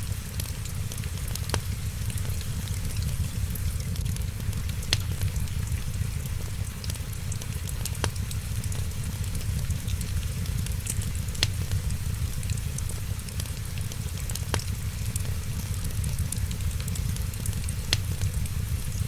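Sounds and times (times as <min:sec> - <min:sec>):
rain hissing: 0:00.0 - 0:19.0
wood fire crackling: 0:00.0 - 0:19.0.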